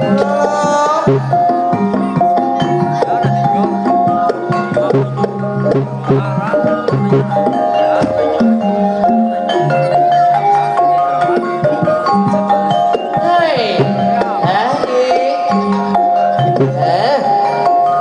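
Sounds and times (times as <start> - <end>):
hand drums: 0.0 - 18.0
person singing: 0.0 - 18.0
struck mallet instruments melody: 0.0 - 18.0.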